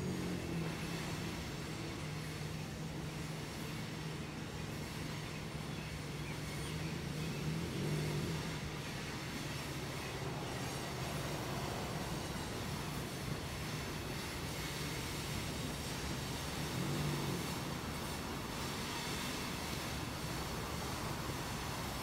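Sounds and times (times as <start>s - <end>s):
diesel locomotive engine drone: 0.0s - 22.0s
passing train: 0.0s - 22.0s.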